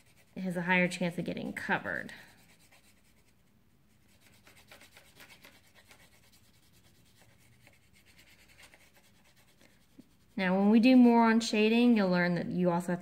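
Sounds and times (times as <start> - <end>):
crayon scratching on paper: 0.0 - 11.1.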